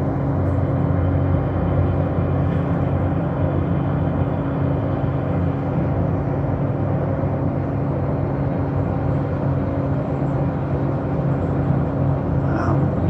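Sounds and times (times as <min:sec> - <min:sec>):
rail grinder machinery drone: 0:00.0 - 0:13.0.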